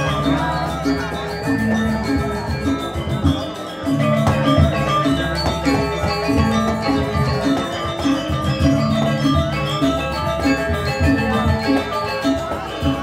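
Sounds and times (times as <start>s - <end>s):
gamelan metallophones ringing: 0.0s - 13.0s.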